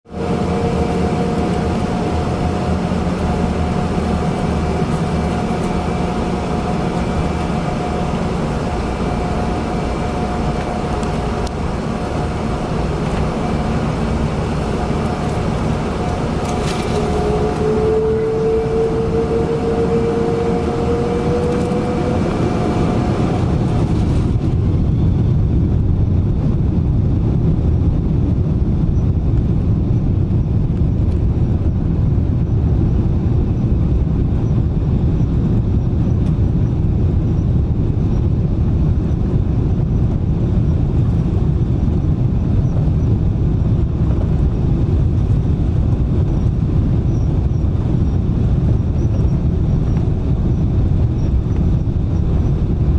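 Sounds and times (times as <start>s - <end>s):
low rumble of takeoff run: 0.0s - 52.9s
jet engines whining: 0.1s - 52.9s.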